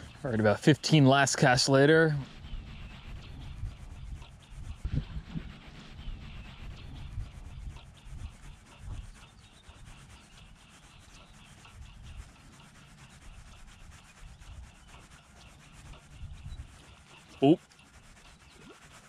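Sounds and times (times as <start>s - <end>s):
low rumble: 0.0s - 17.4s.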